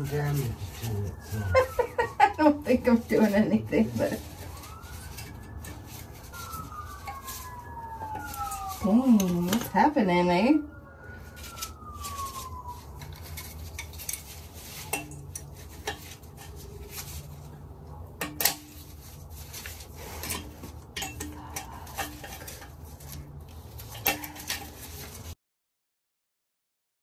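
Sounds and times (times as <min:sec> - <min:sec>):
hand tools scraping metal: 0:00.0 - 0:09.9, 0:11.2 - 0:25.4.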